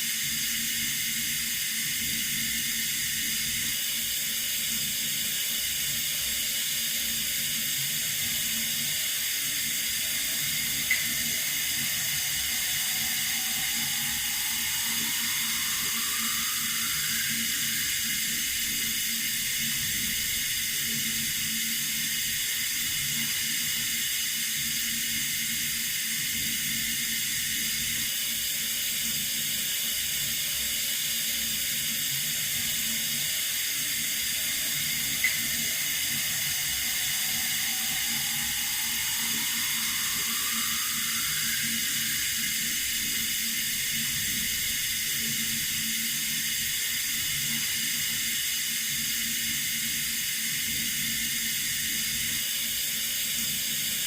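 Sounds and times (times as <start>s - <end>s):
running water hiss: 0.0s - 54.0s.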